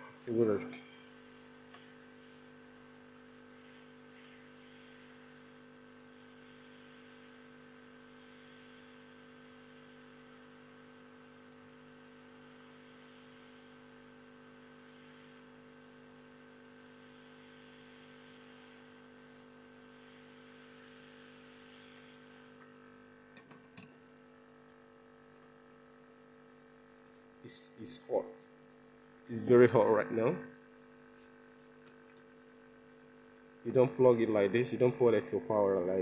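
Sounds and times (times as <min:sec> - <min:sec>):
hot-air blower whirring: 0:00.0 - 0:36.0.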